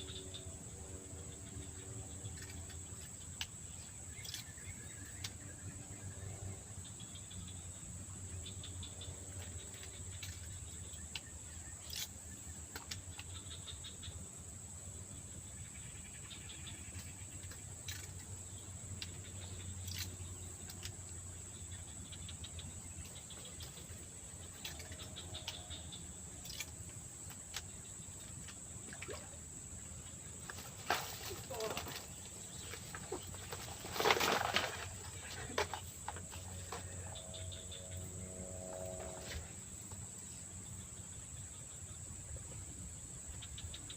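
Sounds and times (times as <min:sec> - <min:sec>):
high-pitched insect trill: 0:00.0 - 0:43.9.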